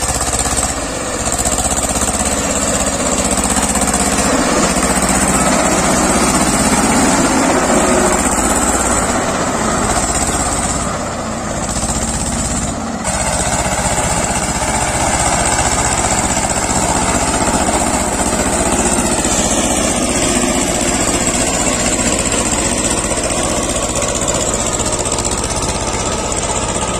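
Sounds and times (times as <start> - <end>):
diesel tractor engine under load: 0.0 - 26.9.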